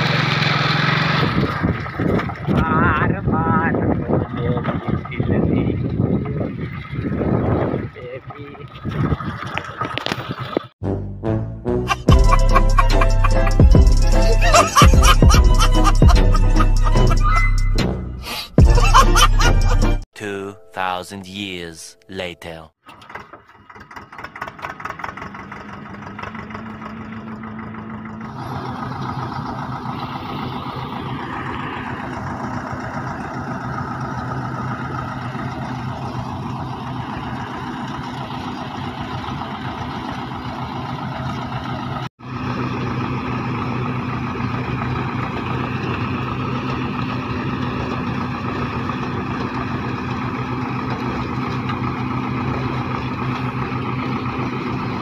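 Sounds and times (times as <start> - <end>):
tractor engine humming: 0.0 - 8.5, 11.9 - 55.0.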